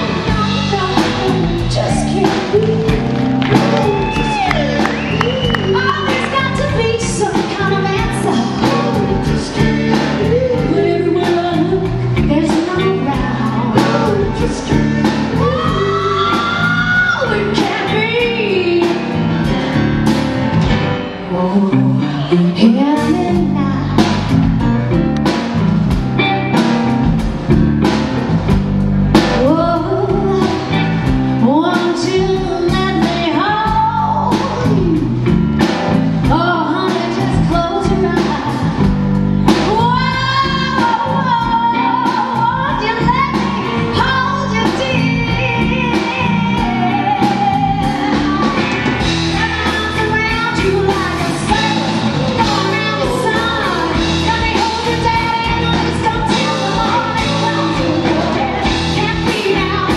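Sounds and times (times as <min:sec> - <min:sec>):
woman singing: 0:00.0 - 0:19.6, 0:21.0 - 0:24.3, 0:29.1 - 0:59.9
blues band playing: 0:00.0 - 0:59.9.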